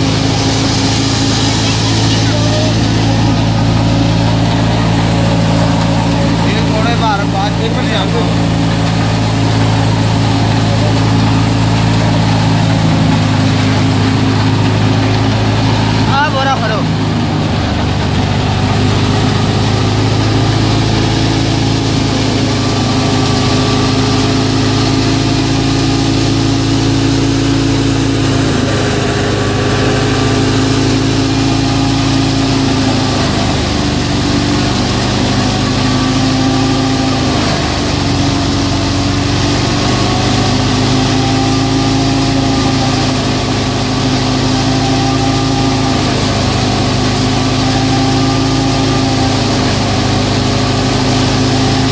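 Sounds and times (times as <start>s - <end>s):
thresher drum and fan whirring: 0.0s - 51.9s
tractor diesel engine running: 0.0s - 51.9s.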